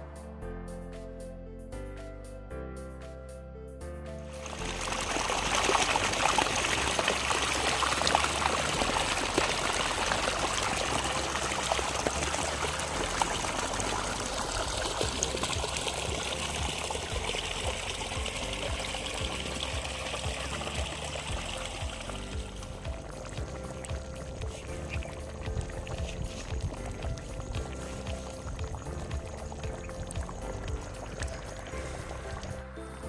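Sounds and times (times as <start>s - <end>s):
curry sizzling and bubbling: 4.3s - 32.7s.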